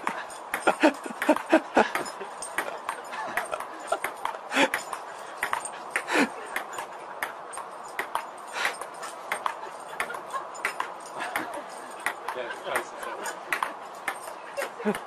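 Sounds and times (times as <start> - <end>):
table tennis ball bouncing: 0.0 - 12.9, 13.5 - 15.0.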